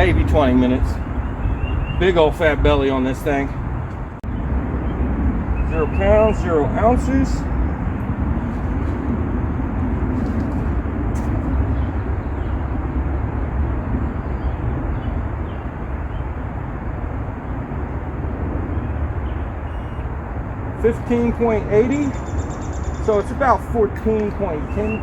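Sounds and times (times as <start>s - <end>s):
low rumbling outdoor noise: 0.0s - 25.0s.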